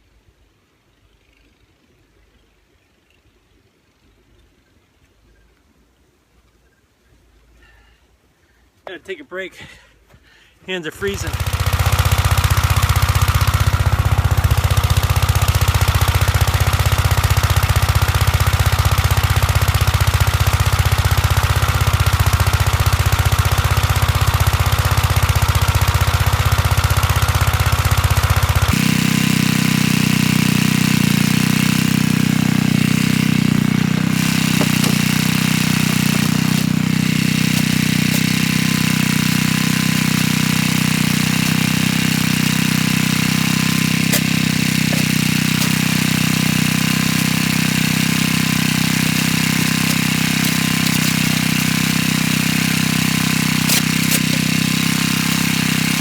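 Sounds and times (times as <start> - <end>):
tractor engine running: 10.8 - 56.0.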